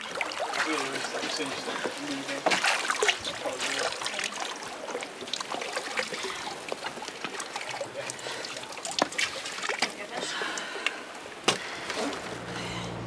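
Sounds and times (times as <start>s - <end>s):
water trickling and dripping: 0.0s - 11.5s
small splashes: 0.0s - 13.0s.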